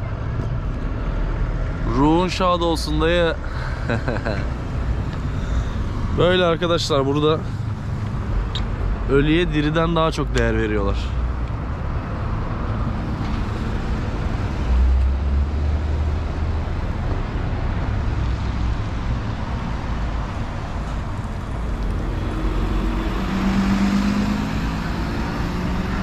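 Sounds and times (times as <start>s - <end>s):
engine hum: 0.0s - 26.0s
passing vehicles: 0.0s - 26.0s.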